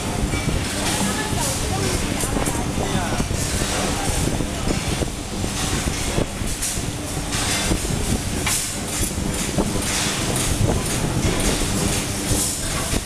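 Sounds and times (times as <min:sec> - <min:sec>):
metal clanks and crackles: 0:00.2 - 0:13.0.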